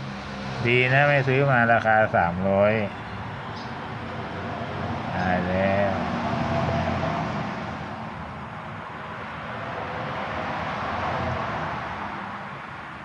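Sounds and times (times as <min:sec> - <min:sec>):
road traffic: 0:00.0 - 0:13.0
vehicle passing: 0:00.0 - 0:13.0.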